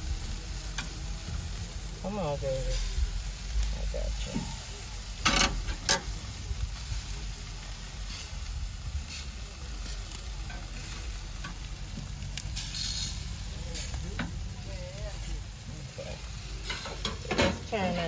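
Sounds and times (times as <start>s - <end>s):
meat sizzling on a grill: 0.0s - 18.0s.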